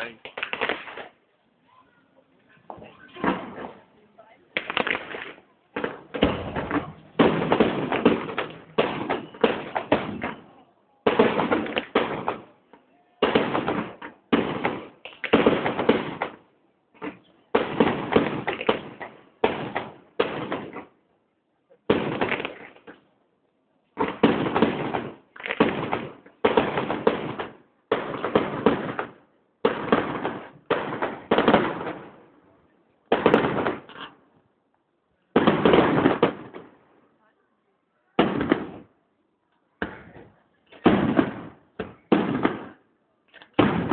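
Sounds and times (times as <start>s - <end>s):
fireworks bursting with echo: 0.0s - 1.3s, 2.7s - 21.1s, 21.7s - 23.1s, 23.9s - 34.4s, 35.3s - 37.0s, 38.1s - 39.0s, 39.8s - 43.9s.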